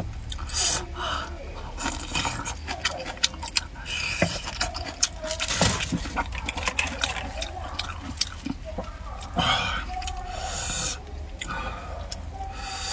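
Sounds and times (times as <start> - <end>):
wet chewing and lip smacks: 0.0 - 12.9.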